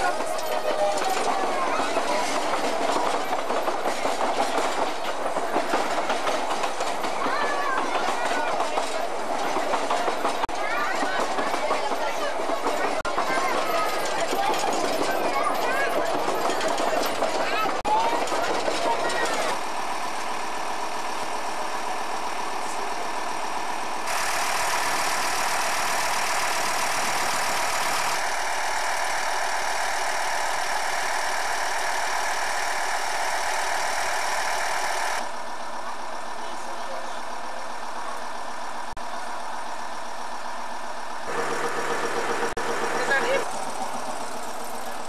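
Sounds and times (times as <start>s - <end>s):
diesel locomotive engine running: 0.0s - 45.0s.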